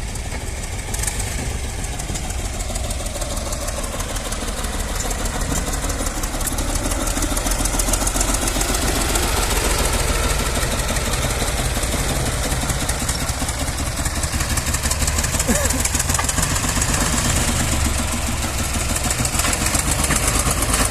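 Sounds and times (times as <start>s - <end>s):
tractor diesel engine chugging: 0.0s - 20.9s.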